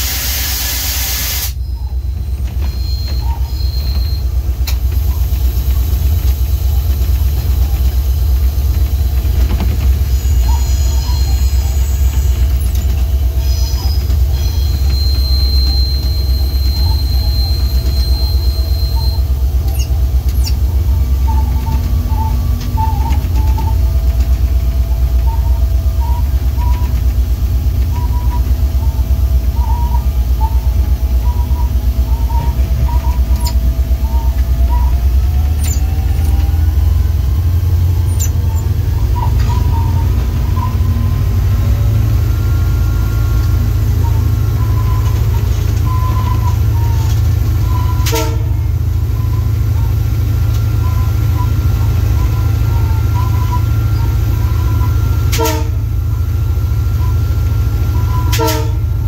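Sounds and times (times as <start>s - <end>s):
locomotive diesel engine rumbling: 0.0s - 59.0s
wheel squeal on track: 0.0s - 59.0s.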